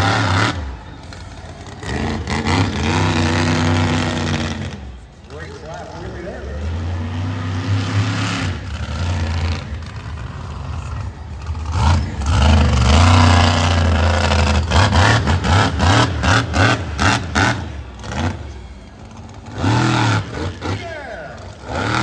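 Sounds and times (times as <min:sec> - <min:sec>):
monster truck engine revving: 0:00.0 - 0:22.0
sharp throttle blips: 0:00.0 - 0:22.0.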